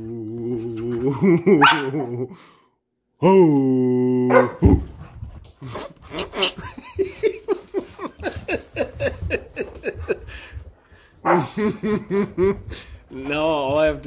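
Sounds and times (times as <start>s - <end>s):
man laughing: 0.0s - 2.5s, 3.2s - 5.0s, 5.6s - 10.7s, 11.4s - 13.5s.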